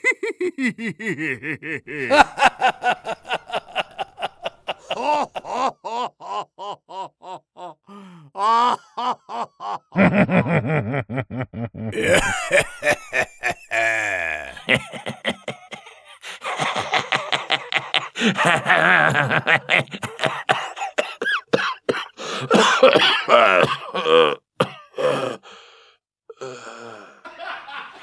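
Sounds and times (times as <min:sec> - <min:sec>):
people laughing hard: 0:00.0 - 0:24.0, 0:27.0 - 0:28.0.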